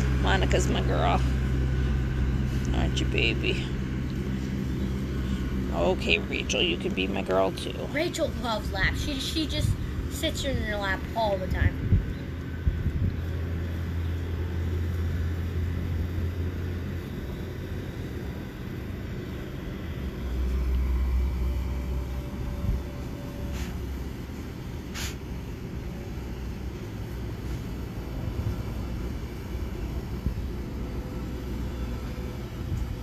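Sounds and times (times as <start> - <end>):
tractor engine rumbling: 0.0 - 33.0.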